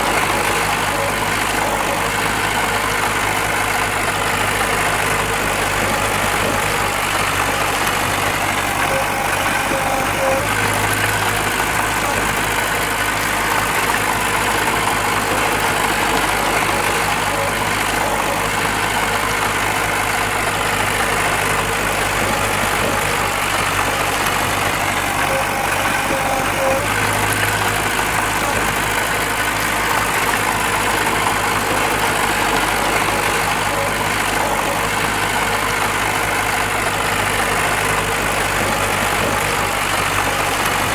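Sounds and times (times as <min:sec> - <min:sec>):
diesel engine of heavy machinery: 0:00.0 - 0:40.9.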